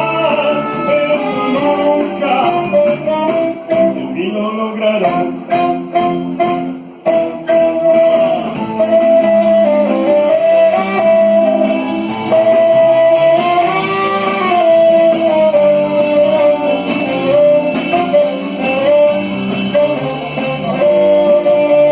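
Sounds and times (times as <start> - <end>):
live band music: 0.0 - 21.9
sliding guitar melody: 0.0 - 21.9.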